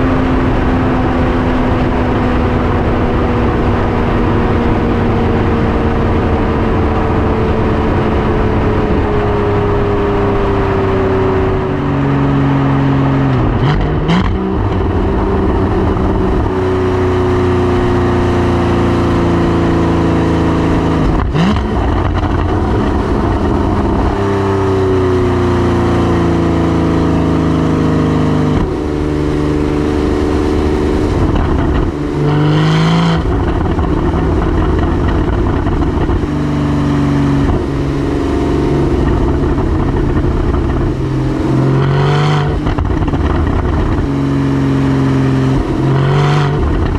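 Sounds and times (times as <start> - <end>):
car engine changing revs and gears: 0.0 - 46.9.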